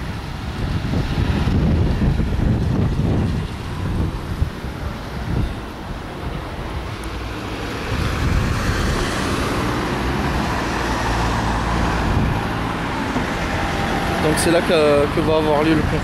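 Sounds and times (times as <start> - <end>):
car passing: 0.0 - 16.0.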